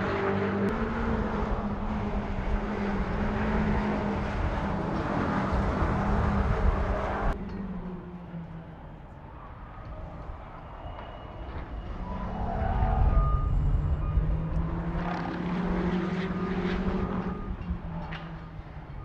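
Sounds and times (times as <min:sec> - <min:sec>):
car engines passing: 0:00.0 - 0:19.0.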